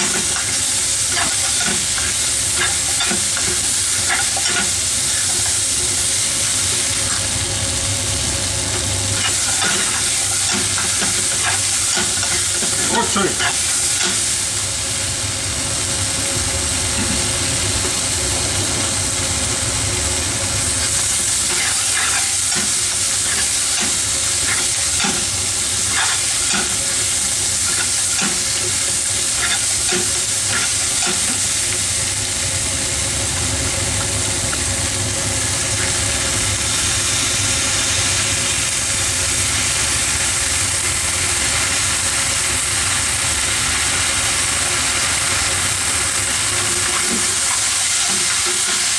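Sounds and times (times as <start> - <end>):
steady low hum: 0.0 - 47.5
food sizzling in a frying pan: 0.0 - 48.9.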